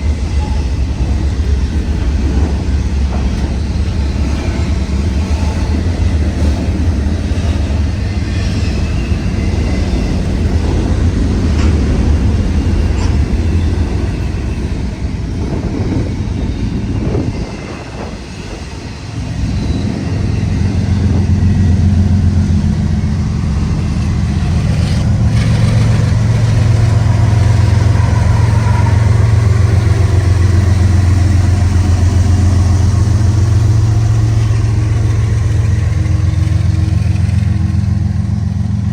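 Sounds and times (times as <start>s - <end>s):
diesel locomotive engine drone: 0.0s - 38.9s
train rolling past: 0.0s - 38.9s.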